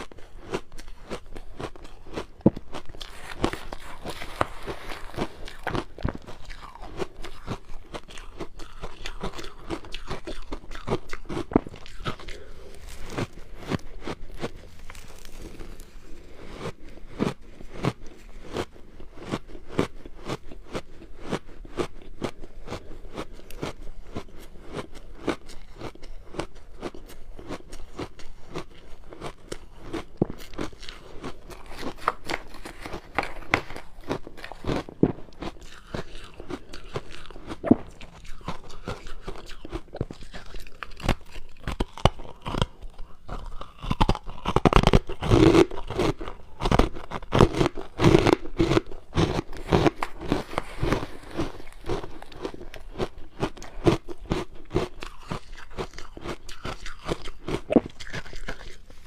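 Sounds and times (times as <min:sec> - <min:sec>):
person crunching ice: 0:00.0 - 0:59.0.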